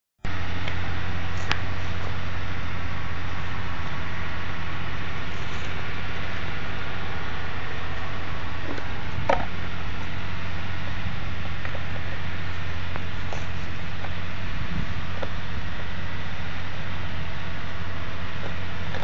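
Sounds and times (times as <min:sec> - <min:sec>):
low hum with hiss: 0:00.2 - 0:19.0.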